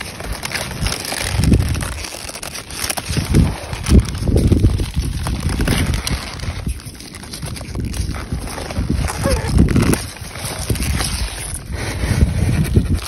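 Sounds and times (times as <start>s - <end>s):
leaves rustling and crackling: 0.0s - 13.0s
wind buffeting microphone: 0.0s - 13.0s.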